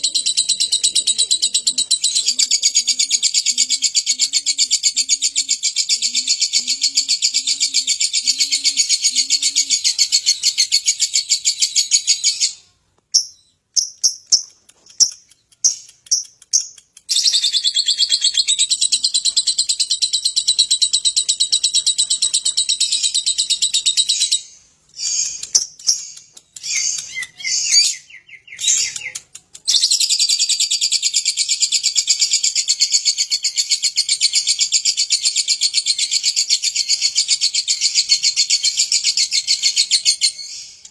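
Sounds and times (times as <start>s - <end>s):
lovebird chattering: 0.0s - 35.0s.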